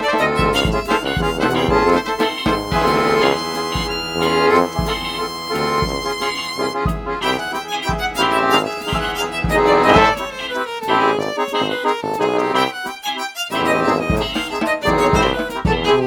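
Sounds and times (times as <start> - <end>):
steady music beat: 0.0 - 12.9, 13.6 - 16.0
accordion-like melody: 0.0 - 16.0.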